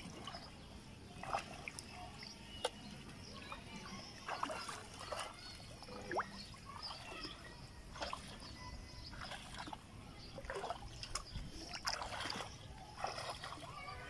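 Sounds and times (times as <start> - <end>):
wading through muddy water: 0.0 - 14.0.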